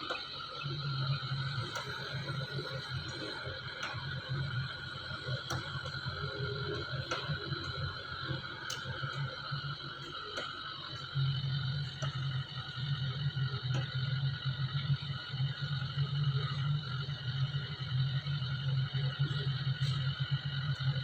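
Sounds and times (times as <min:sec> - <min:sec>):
hydraulic whine: 0:00.0 - 0:21.0.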